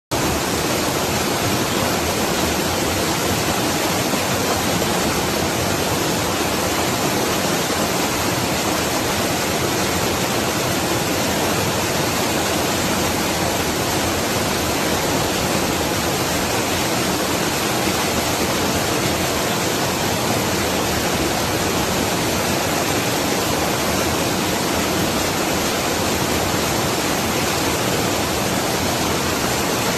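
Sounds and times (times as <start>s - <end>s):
waterfall roaring: 0.1s - 29.9s.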